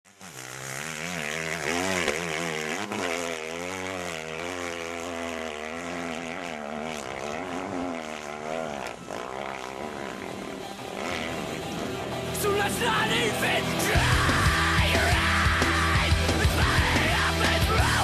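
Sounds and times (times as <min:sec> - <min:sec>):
dirt bike engine revving: 0:00.1 - 0:18.0.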